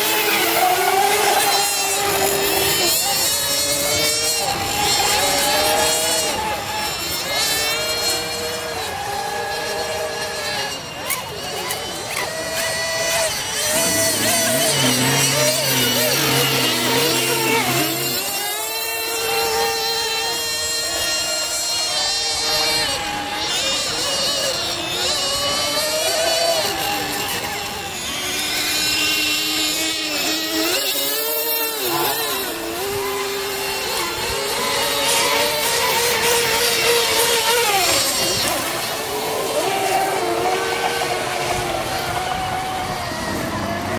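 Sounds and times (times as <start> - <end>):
racing boat motors whining: 0.0 - 43.9.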